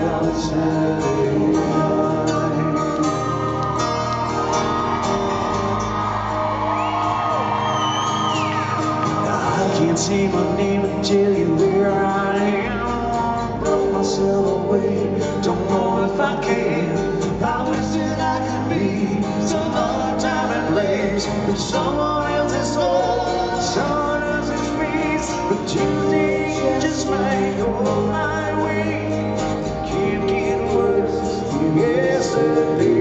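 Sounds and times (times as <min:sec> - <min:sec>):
man singing: 0:00.0 - 0:03.4, 0:09.1 - 0:33.0
acoustic guitars strummed: 0:00.0 - 0:33.0.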